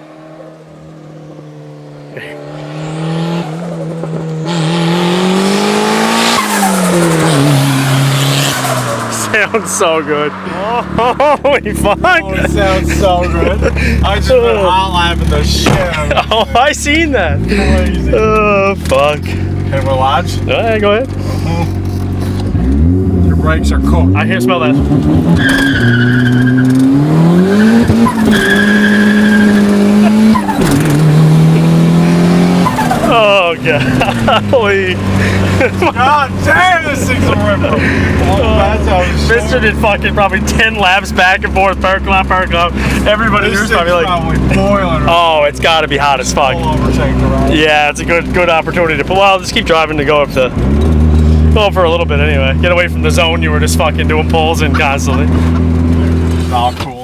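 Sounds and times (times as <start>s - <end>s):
car engine revving hard: 0.0s - 15.9s, 17.0s - 56.8s
tires squealing: 2.2s - 20.4s, 21.1s - 57.0s.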